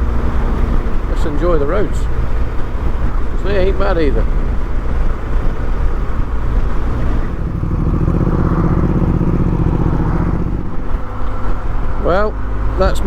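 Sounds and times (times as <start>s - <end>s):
motorcycle engine running: 0.0s - 13.0s
road noise: 0.0s - 13.0s
wind noise: 0.0s - 13.0s.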